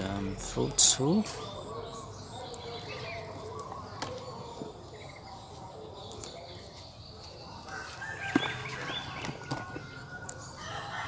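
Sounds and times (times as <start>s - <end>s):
faint bird and fowl calls: 0.0s - 11.0s.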